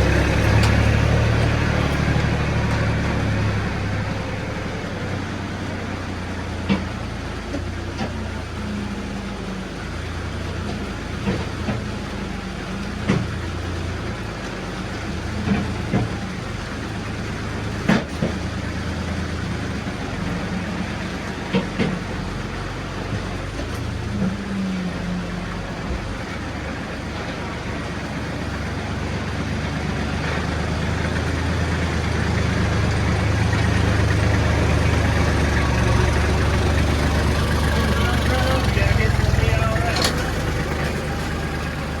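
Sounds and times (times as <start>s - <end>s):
vehicle engine running low: 0.0s - 42.0s.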